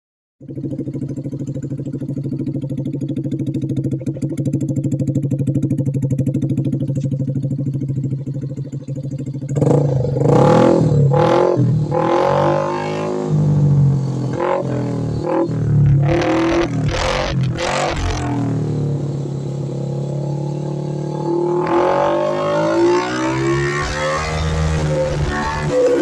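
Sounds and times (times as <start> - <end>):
scooter engine idling and revving: 0.4 - 26.0.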